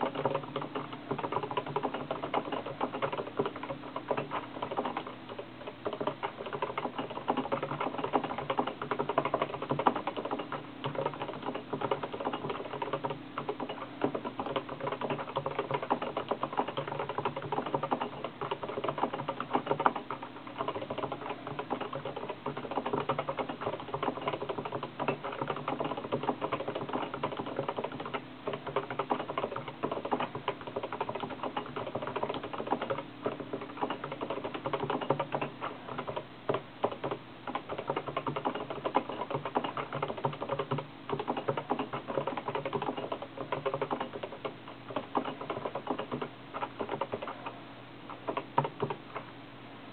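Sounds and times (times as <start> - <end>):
fast typing on keyboard: 0.0 - 49.3.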